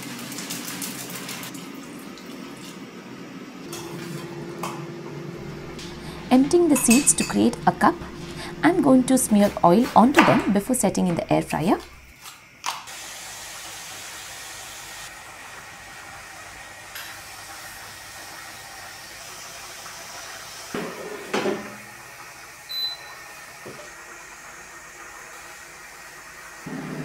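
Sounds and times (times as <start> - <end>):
air fryer fan hissing: 3.2 - 12.2, 12.9 - 27.0.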